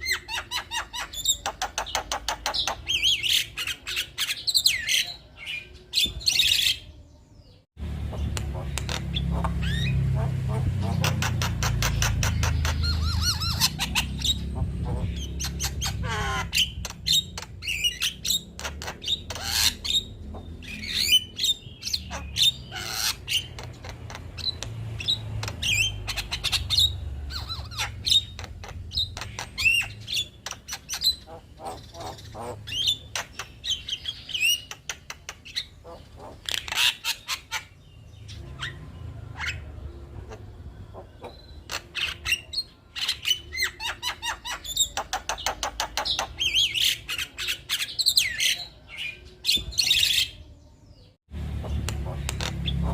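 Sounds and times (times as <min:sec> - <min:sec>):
other birds calling: 0:00.0 - 0:52.9.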